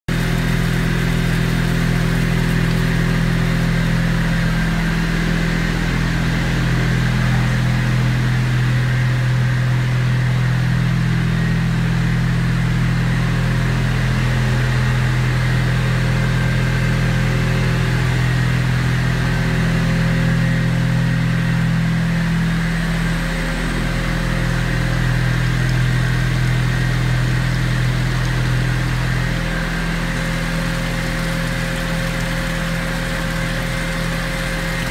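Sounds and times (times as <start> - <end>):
low machine hum: 0.1 - 34.9.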